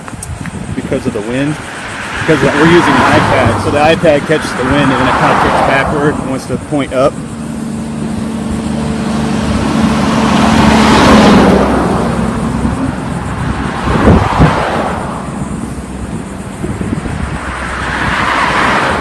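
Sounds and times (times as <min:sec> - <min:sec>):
wind buffeting microphone: 0:00.0 - 0:19.0
vehicle passing: 0:00.6 - 0:19.0
heavy truck passing: 0:01.0 - 0:19.0.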